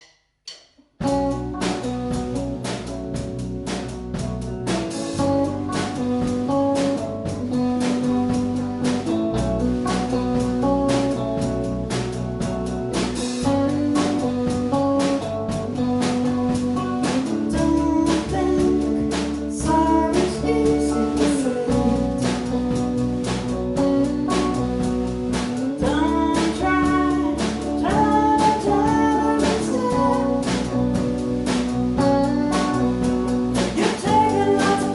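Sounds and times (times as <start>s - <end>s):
bass line: 0.0s - 34.9s
drum kit beat: 0.0s - 34.9s
guitar: 1.0s - 34.9s.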